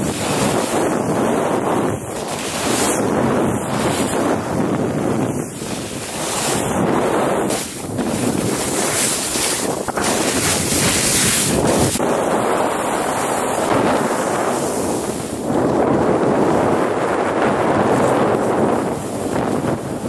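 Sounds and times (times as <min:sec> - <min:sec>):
skis carving through snow: 0:00.0 - 0:20.0
wind rushing over microphone: 0:00.0 - 0:20.0.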